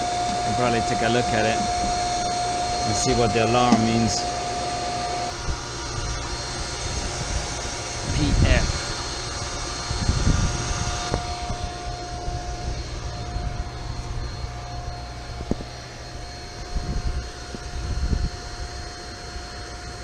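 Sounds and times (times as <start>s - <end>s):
chiller machinery drone: 0.0s - 20.0s.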